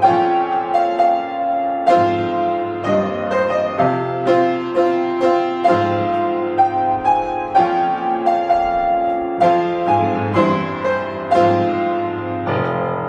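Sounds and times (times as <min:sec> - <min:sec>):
solo piano playing: 0:00.0 - 0:13.0.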